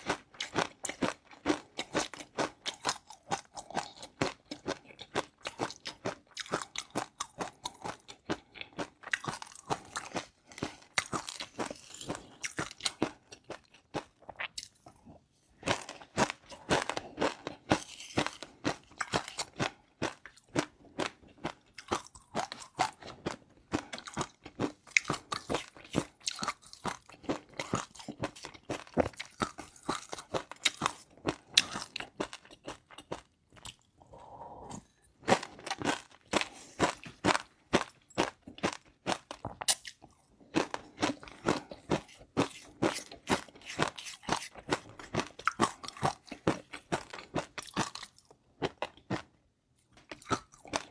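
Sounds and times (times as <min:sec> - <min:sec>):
crunching and chewing food: 0:00.0 - 0:50.9.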